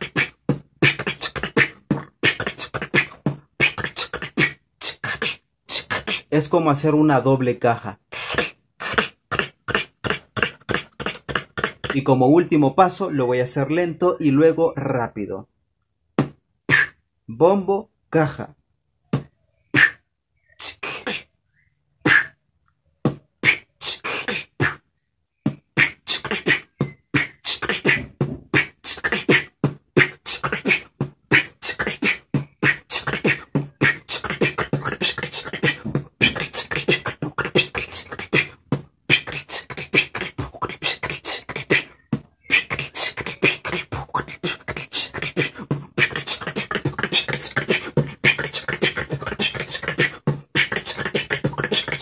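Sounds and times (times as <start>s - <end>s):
beatboxing drum and bass beat: 0.0s - 7.0s, 8.1s - 13.7s, 16.2s - 17.0s, 19.1s - 21.3s, 22.0s - 22.4s, 23.0s - 24.8s, 25.4s - 52.0s.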